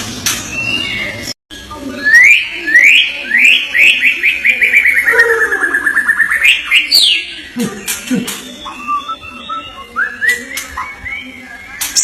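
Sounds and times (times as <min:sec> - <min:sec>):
bird singing whistles and trills: 0:00.5 - 0:12.0.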